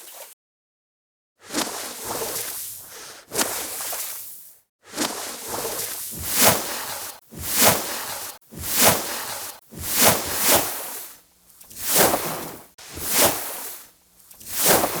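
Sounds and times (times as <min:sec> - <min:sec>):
water splashing and sloshing: 0:00.0 - 0:00.4, 0:01.4 - 0:15.0.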